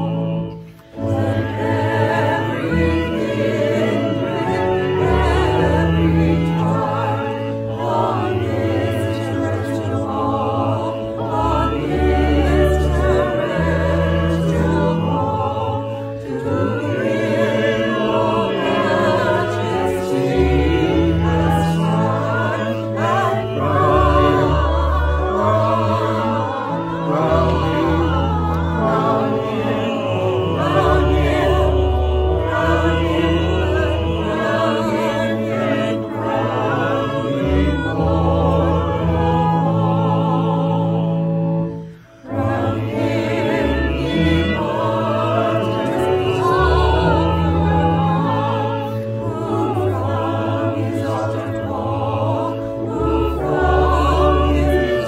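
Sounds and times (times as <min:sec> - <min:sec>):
choir singing a hymn: 0:00.0 - 0:55.0
keyboard accompaniment: 0:00.0 - 0:55.0.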